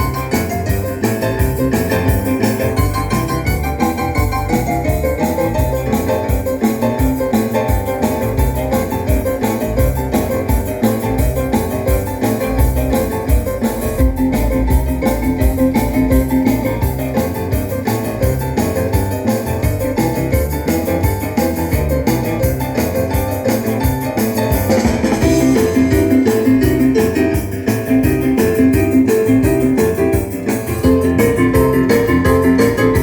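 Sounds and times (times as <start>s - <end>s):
music with piano drums and bass: 0.0s - 33.0s.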